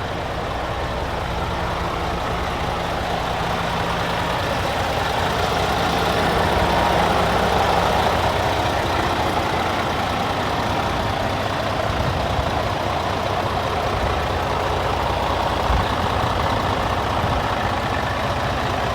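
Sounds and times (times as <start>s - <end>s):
diesel truck engine running: 0.0s - 18.9s.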